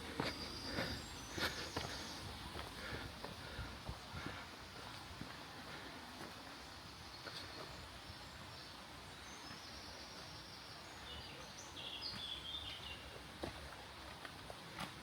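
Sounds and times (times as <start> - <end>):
songbird singing faintly: 0.0 - 14.8
outdoor background hiss: 0.0 - 15.0.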